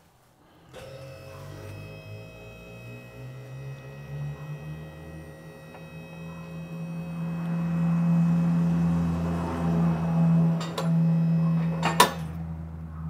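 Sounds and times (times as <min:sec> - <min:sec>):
hydraulic pump motor humming: 0:00.6 - 0:12.5.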